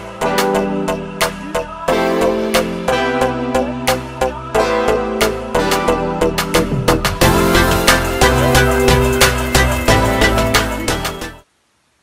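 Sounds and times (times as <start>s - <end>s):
background music with steady beat: 0.0s - 11.5s.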